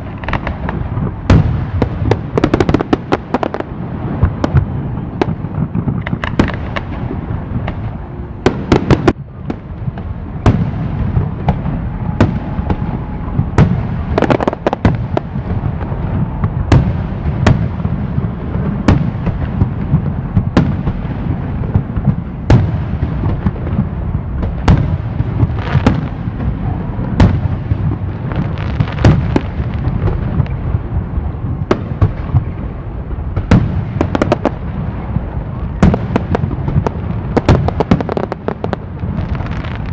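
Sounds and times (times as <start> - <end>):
rumble and crackle of fireworks: 0.0 - 39.9.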